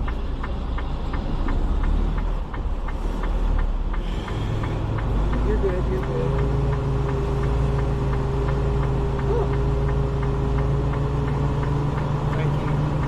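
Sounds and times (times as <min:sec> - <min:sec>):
light regular ticking: 0:00.0 - 0:13.0
truck diesel engine running: 0:00.0 - 0:13.0.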